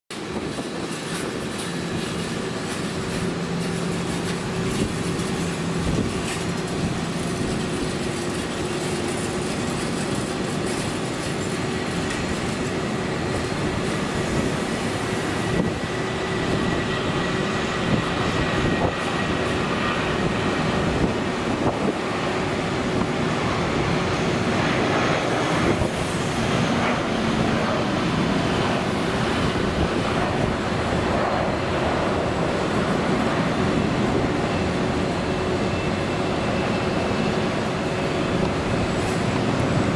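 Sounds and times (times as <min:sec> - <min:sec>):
jet engines at takeoff thrust: 0:00.1 - 0:39.9.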